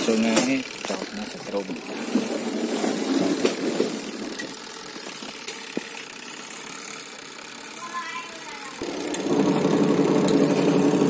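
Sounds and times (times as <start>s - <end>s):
washing machine motor running: 0.0s - 11.0s.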